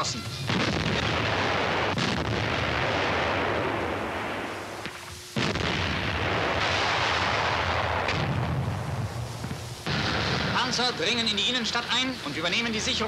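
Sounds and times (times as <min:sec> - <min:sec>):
gunfire and artillery fire: 0:00.0 - 0:11.3.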